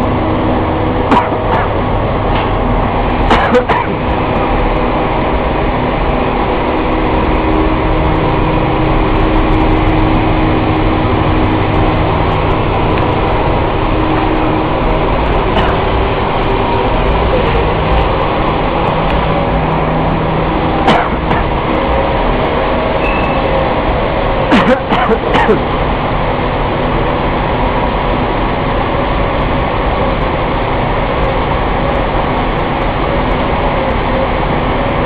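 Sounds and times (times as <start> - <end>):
machinery humming: 0.0 - 35.0.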